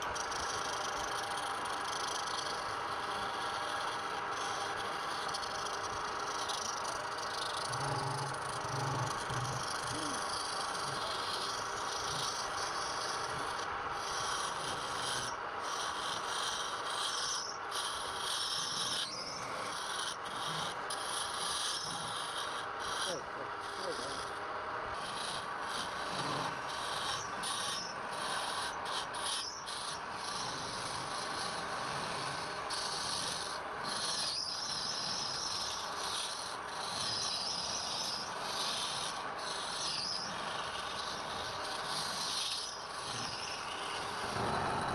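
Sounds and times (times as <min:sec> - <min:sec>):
tool scraping wood: 0:00.0 - 0:44.9.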